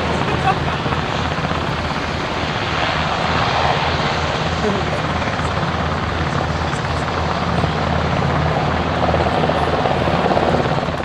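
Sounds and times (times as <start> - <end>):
helicopter rotor thrum: 0.0 - 11.0
turbine noise: 0.0 - 11.0.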